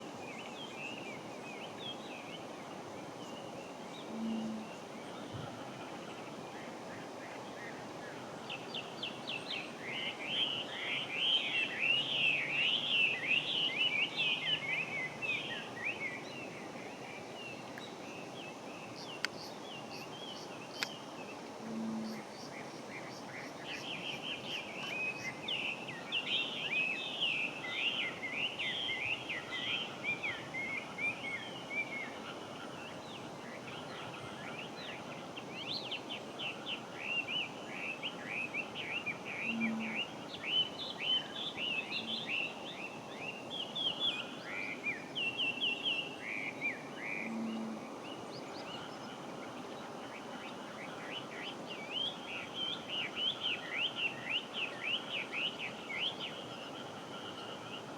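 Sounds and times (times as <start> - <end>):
outdoor background hiss: 0.0 - 57.9.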